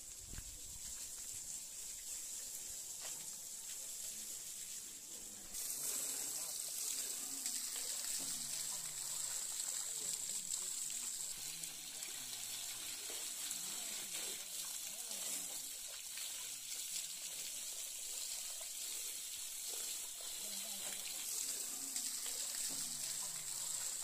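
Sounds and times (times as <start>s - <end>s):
water spraying hiss: 0.0s - 24.0s.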